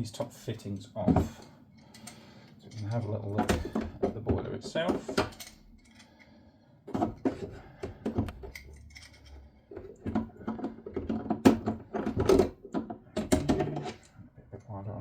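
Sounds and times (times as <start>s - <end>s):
hand tools clicking and knocking: 1.0s - 6.3s, 6.9s - 14.1s.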